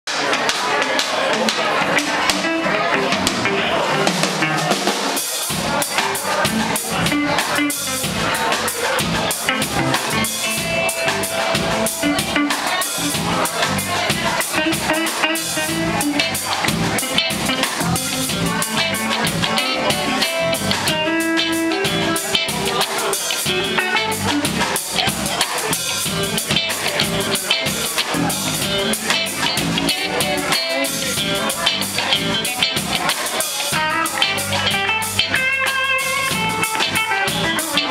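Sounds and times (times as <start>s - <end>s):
drum kit hits: 0.1s - 37.9s
bass guitar: 0.2s - 37.9s
electric guitars: 0.2s - 37.9s.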